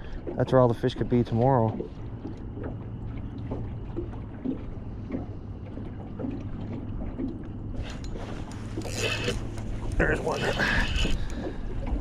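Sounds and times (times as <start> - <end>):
waves lapping against boat hull: 0.0 - 12.0.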